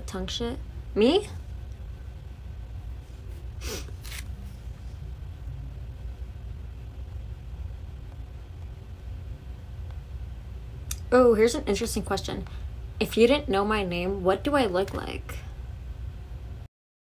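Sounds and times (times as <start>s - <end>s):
steady low rumble: 0.0s - 16.7s.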